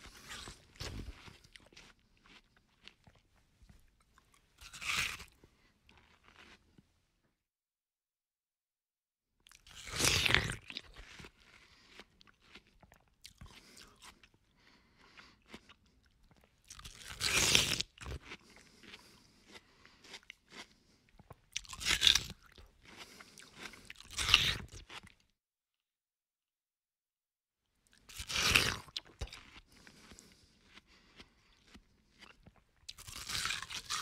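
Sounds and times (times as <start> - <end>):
chewing with crunching seeds: 0.0 - 6.8, 9.4 - 25.3, 27.9 - 34.0.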